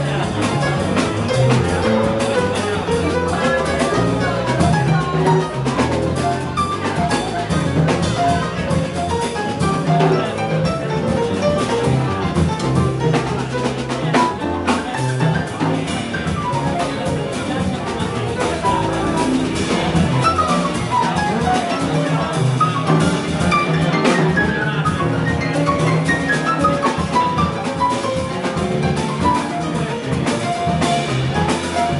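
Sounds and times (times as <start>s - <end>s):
double bass: 0.0s - 31.9s
drum kit: 0.0s - 31.9s
piano: 0.0s - 31.9s.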